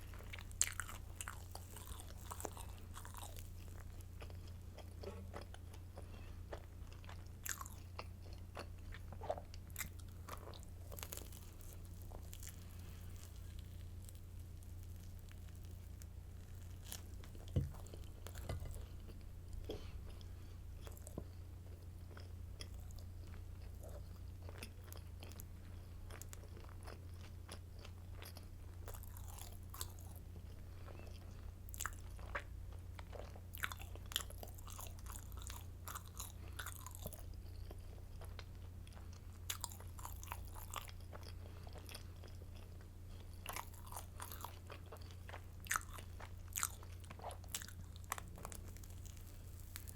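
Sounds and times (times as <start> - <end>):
crunchy bread chewing: 0.0 - 49.9
steady low hum: 0.0 - 49.9.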